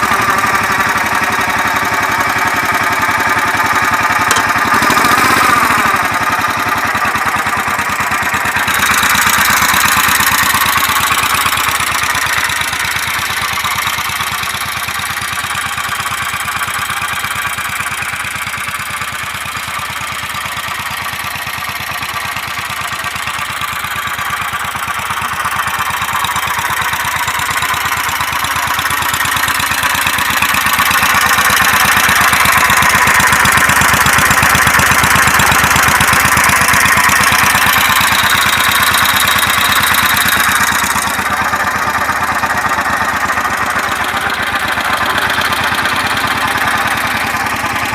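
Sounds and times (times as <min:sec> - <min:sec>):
small tractor engine running: 0:00.0 - 0:47.9.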